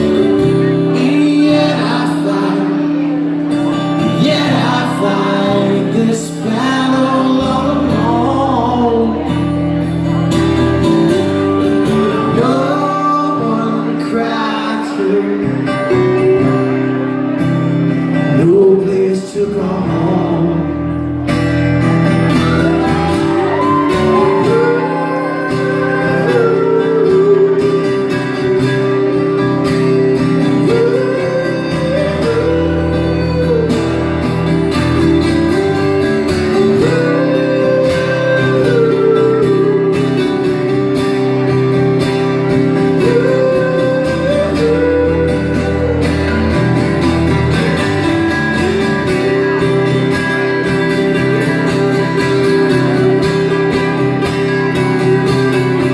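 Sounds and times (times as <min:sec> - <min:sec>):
live band instrumental music: 0:00.0 - 0:55.9.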